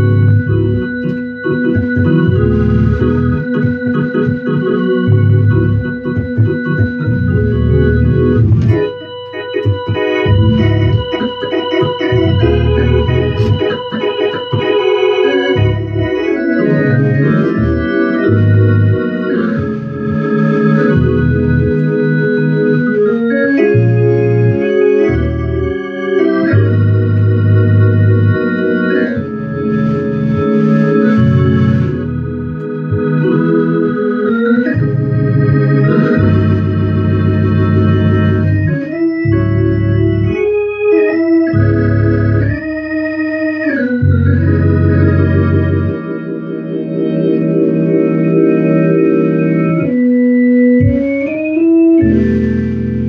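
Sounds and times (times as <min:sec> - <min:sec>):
gospel organ chords: 0:00.0 - 0:53.0.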